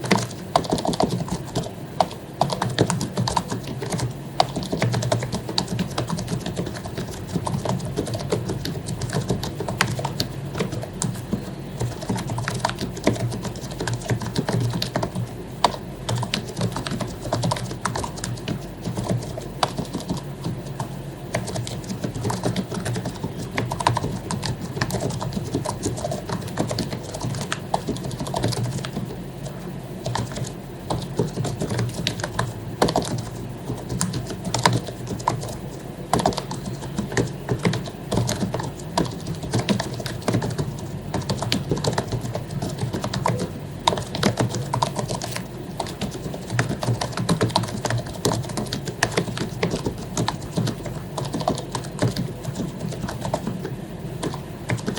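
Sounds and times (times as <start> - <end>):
fast typing on keyboard: 0.0 - 54.9.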